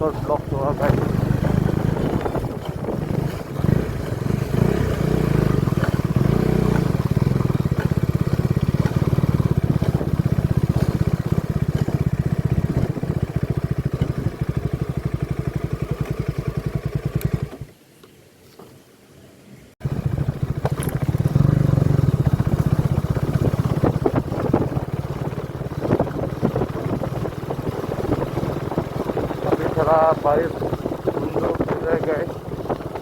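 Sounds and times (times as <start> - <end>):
single-cylinder motorcycle engine running: 0.0 - 17.7, 19.8 - 33.0.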